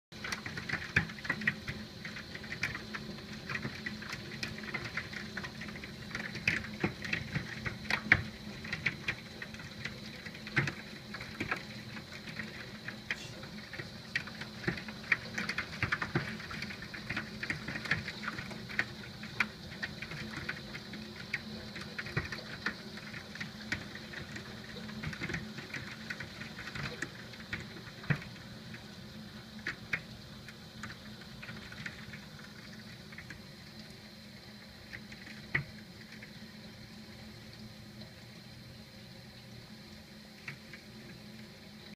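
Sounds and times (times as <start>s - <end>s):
hailstones clicking on hard surfaces: 0.2s - 33.8s, 34.6s - 36.3s
rain hissing: 0.2s - 41.9s.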